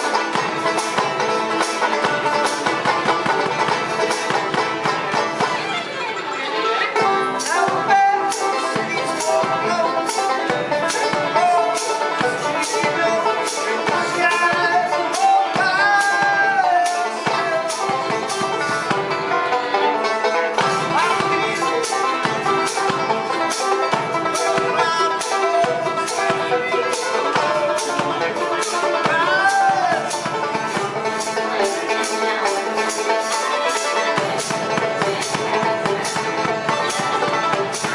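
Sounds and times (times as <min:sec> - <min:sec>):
banjo picking: 0:00.0 - 0:37.9
bluegrass band playing: 0:00.0 - 0:37.9
fiddle melody: 0:00.0 - 0:37.9.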